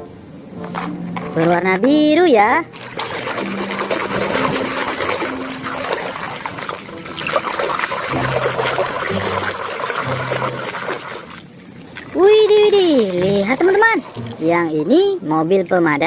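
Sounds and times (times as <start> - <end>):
quiet tune of low held notes: 0.0 - 16.0
water trickling and splashing: 1.3 - 16.0.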